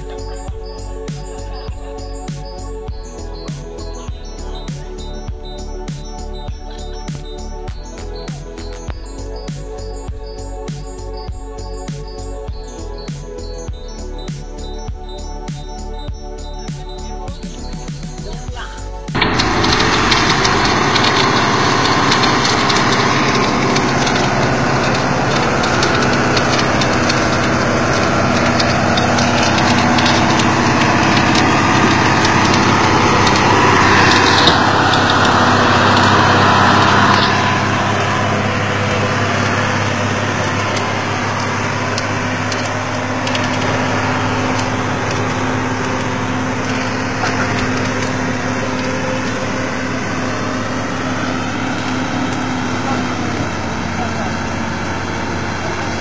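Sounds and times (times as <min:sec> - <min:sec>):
truck engine under load: 0:00.0 - 0:56.0.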